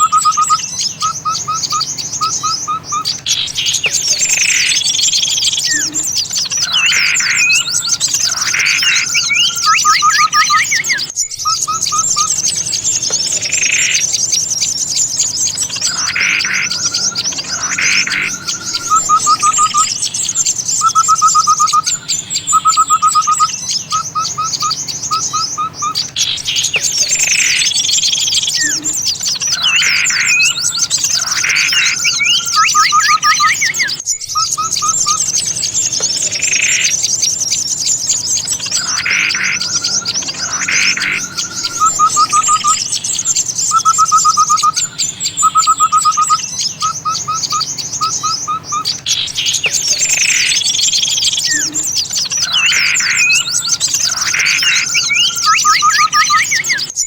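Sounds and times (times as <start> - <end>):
songbirds chattering and calling: 0.0 - 57.0.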